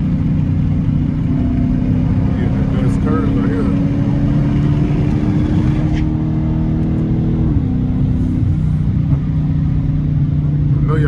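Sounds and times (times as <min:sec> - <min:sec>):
car exhaust rumbling: 0:00.0 - 0:11.0.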